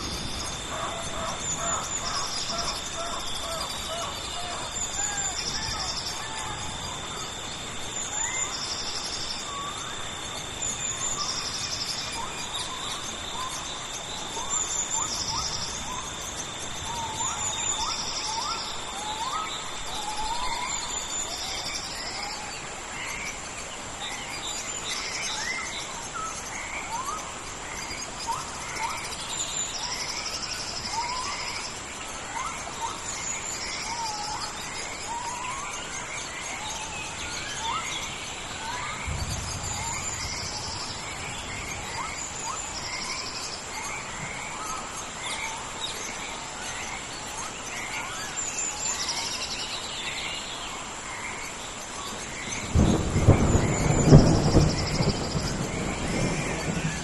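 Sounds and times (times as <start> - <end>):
insects droning: 0.0 - 57.0
pulsed high insect trills: 0.0 - 57.0
rain hissing: 0.0 - 57.0.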